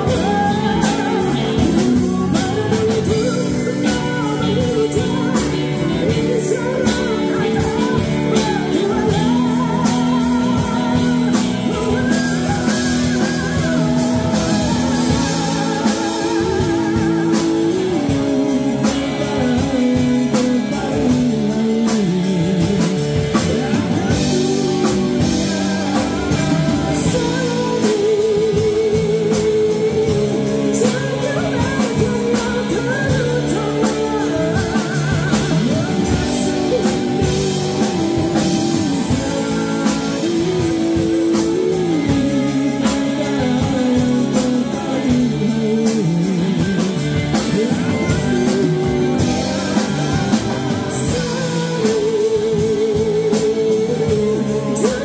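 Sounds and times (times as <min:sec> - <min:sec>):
drum kit beat: 0:00.0 - 0:55.0
guitar: 0:00.0 - 0:55.0
person singing with vibrato: 0:00.0 - 0:55.0.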